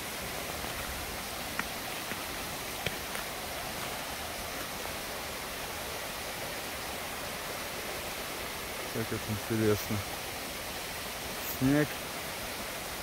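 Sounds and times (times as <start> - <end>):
creek rushing over waterfall: 0.0 - 13.0.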